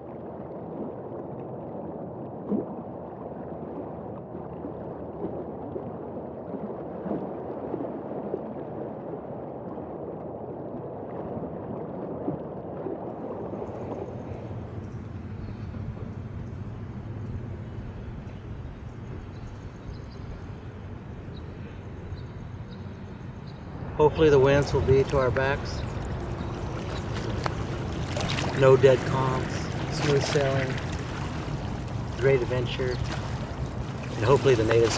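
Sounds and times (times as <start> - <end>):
low rumble with high hiss: 0.0 - 34.9
river water gurgling and sloshing: 0.0 - 34.9.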